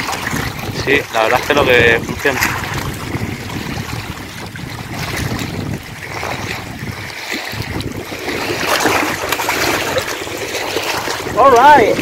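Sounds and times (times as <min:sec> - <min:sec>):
small waves lapping on rocks: 0:00.0 - 0:12.0
water sloshing: 0:00.0 - 0:12.0
wind buffeting microphone: 0:00.0 - 0:12.0.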